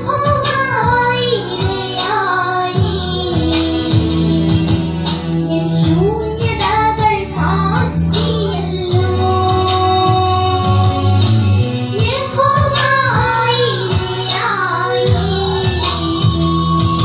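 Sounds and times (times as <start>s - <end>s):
amplified instrumental backing: 0.0s - 17.0s
girls singing into microphones: 0.0s - 17.0s.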